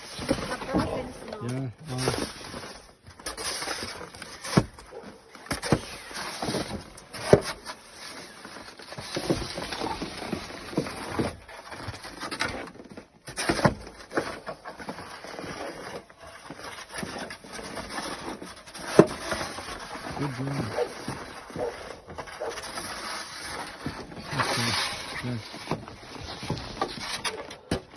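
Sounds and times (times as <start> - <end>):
snow crunching and scraping: 0.0 - 27.7.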